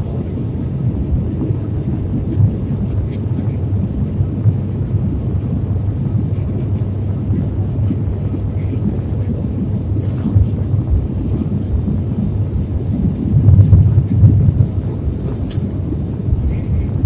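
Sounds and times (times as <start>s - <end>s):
airliner engines and airflow rumble: 0.0s - 17.0s.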